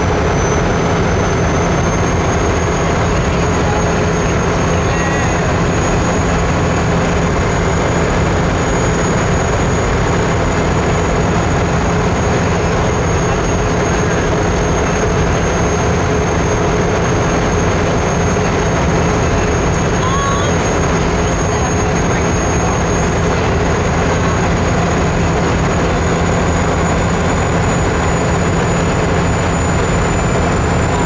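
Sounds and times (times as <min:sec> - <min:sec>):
high-pitched whine: 0:00.0 - 0:31.0
vehicle engine and road noise: 0:00.0 - 0:31.0.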